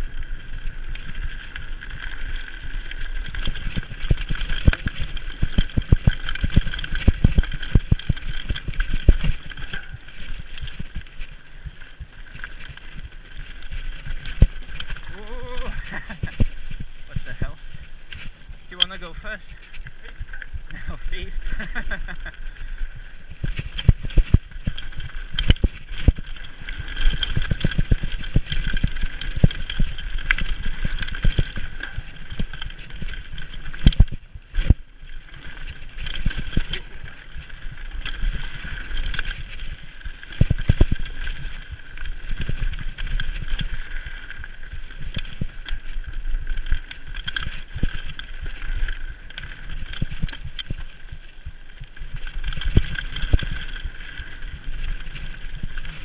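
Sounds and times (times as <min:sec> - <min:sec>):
bike knocking and rattling: 0:00.0 - 0:56.0
wind rumble on microphone: 0:00.0 - 0:56.0
tyres crunching over loose stones: 0:00.2 - 0:56.0.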